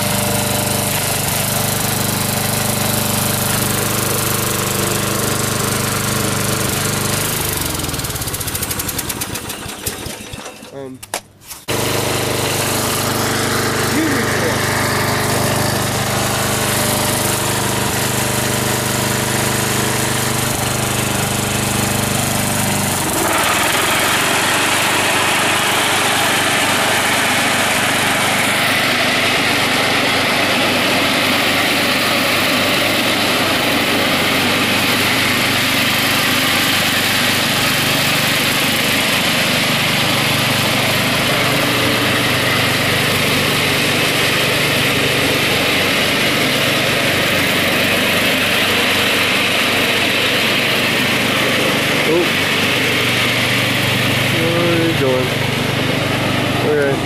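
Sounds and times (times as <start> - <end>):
riding lawn mower engine: 0.0 - 57.0.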